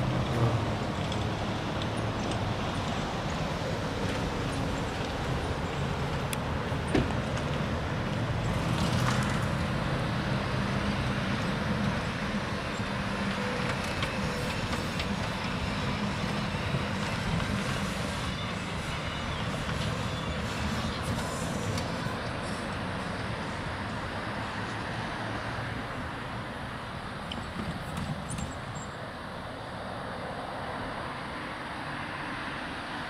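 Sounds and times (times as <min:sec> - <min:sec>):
cars driving past: 0:00.0 - 0:33.0.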